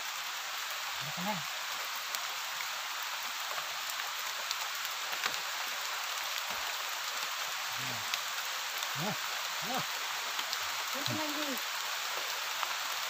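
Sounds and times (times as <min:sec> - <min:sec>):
rain falling on foliage and water: 0:00.0 - 0:13.0.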